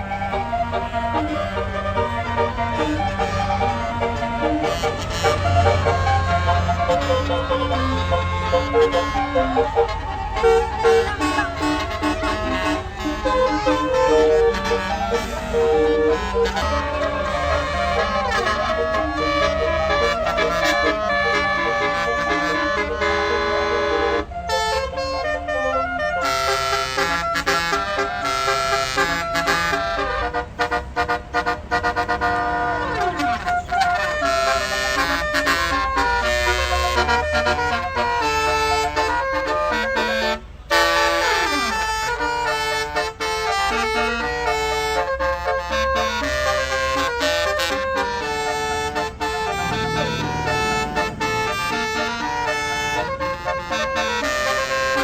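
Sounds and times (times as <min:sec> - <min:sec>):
bus musical horn playing tune: 0:00.0 - 0:55.0.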